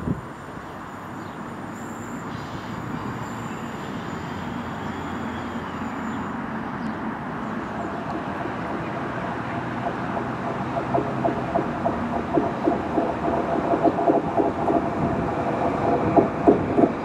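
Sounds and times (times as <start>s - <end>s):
diesel railcar rumbling: 0.0s - 17.0s.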